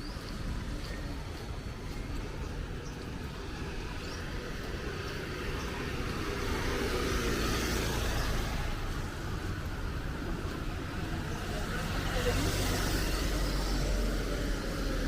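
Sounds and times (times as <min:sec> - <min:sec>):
low traffic rumble: 0:00.0 - 0:15.0
vehicle passing on wet street: 0:00.4 - 0:15.0.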